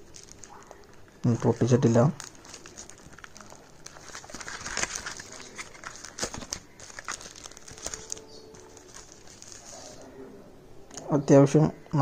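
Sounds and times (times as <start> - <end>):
plastic packet crinkling: 0.0 - 10.1.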